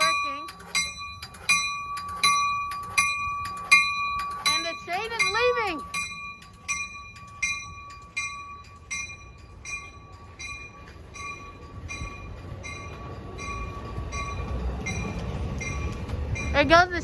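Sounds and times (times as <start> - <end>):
locomotive bell ringing: 0.0 - 17.0
train rumble: 0.0 - 17.0.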